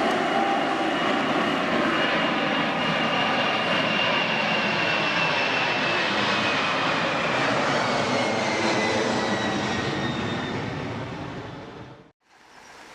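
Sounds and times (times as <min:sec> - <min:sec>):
jet engines roaring with whine: 0:00.0 - 0:12.1.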